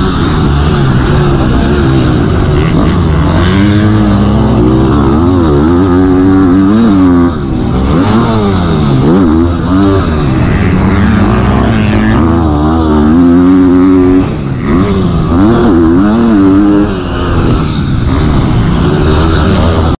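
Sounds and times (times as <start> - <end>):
motocross bike engine revving: 0.0 - 20.0.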